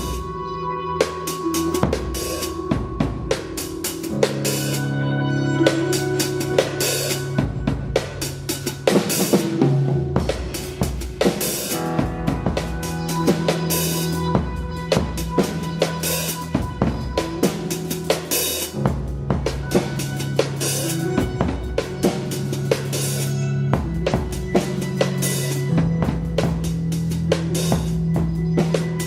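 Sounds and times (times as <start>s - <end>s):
drum kit beat: 0.0s - 5.0s, 5.6s - 29.0s
sustained low notes: 0.0s - 29.0s.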